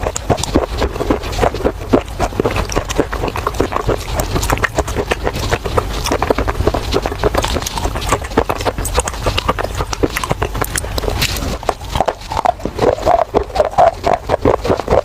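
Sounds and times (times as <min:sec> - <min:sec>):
crunching and chewing clay: 0:00.0 - 0:15.0.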